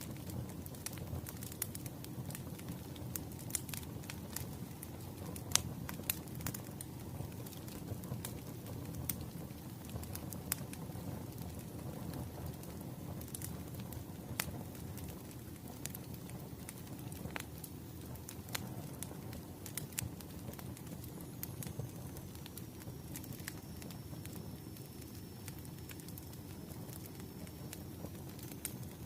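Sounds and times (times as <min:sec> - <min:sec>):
firewood crackling and popping: 0:00.0 - 0:29.0
low rumble of flames: 0:00.0 - 0:29.0.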